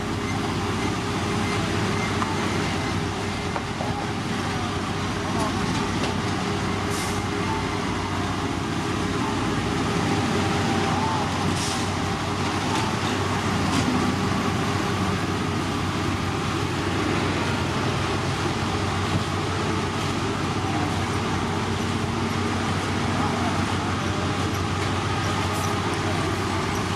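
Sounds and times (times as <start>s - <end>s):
heavy machinery engine drone: 0.0s - 26.9s.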